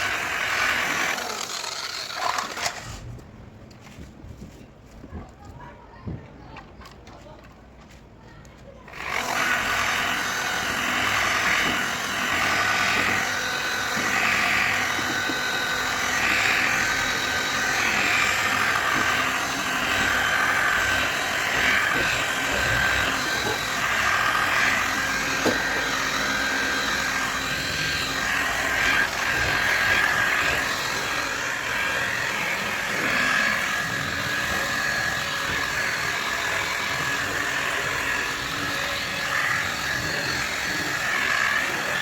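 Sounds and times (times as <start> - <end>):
power tool running: 0.0 - 3.0, 8.9 - 42.0.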